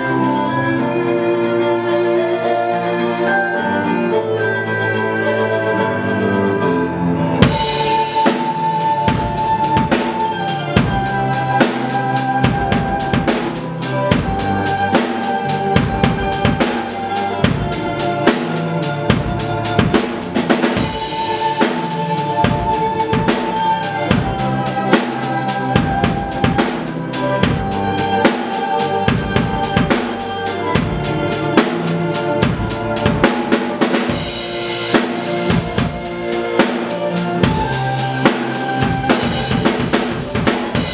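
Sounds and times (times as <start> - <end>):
instrumental rock music: 0.0 - 40.9
drum kit beat: 7.4 - 40.9.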